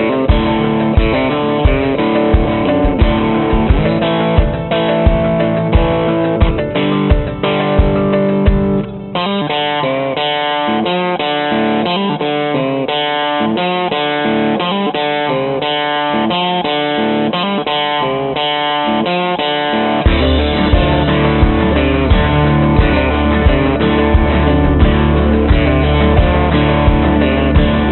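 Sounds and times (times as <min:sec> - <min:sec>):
guitar track with bass and drums: 0:00.0 - 0:27.9.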